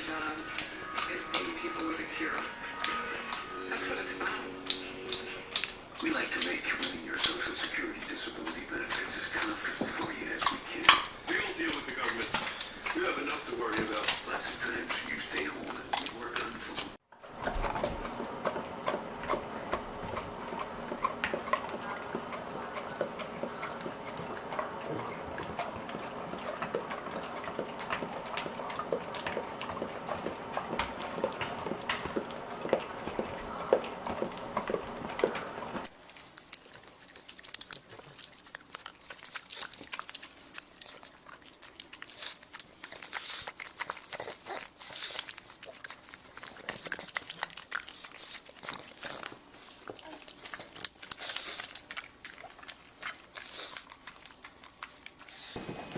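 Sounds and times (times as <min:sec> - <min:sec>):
background hum: 0:00.0 - 0:55.9
dogs licking and smacking mouths: 0:00.0 - 0:55.9.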